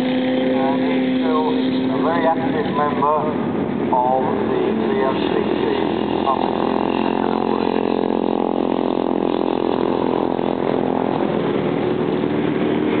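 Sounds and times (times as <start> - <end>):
motorcycles riding past: 0.0 - 13.0.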